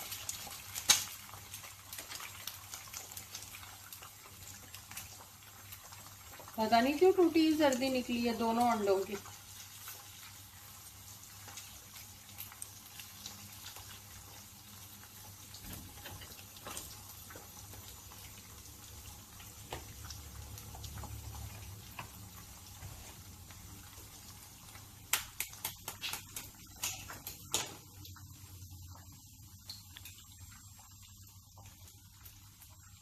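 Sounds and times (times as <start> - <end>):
eggs sizzling in a pan: 0.0 - 33.0.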